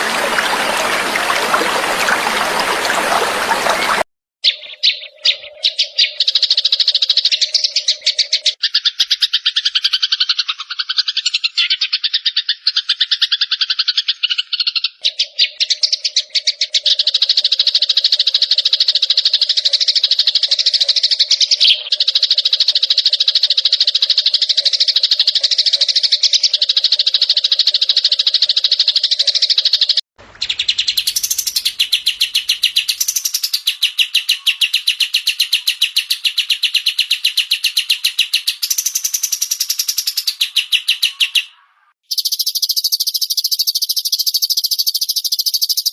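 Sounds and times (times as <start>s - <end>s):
songbird chattering: 3.7s - 45.9s.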